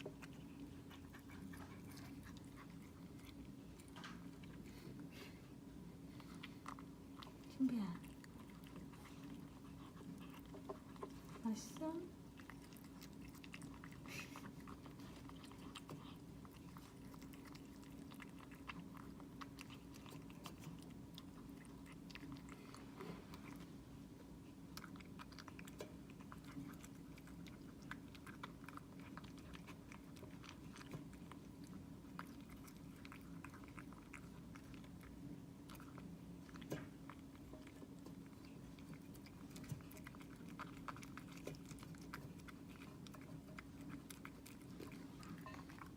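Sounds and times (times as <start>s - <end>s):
cat crunching food: 0.0s - 45.9s.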